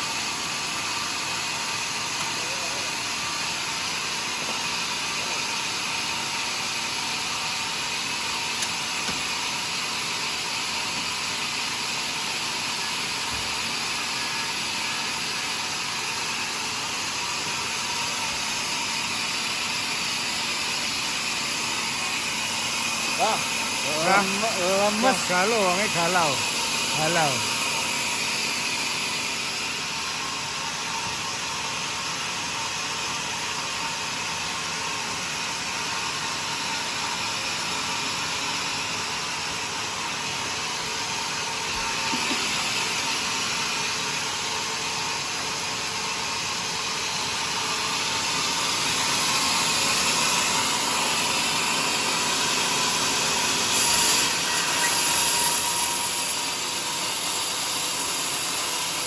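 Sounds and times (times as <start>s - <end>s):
saw cutting log hiss: 0.0s - 31.1s, 36.5s - 59.0s.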